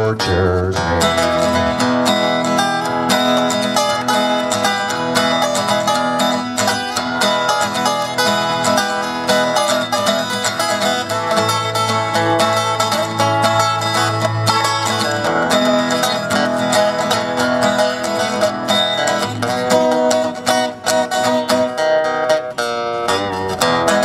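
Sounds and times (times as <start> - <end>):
acoustic plucked string instruments: 0.0 - 24.0.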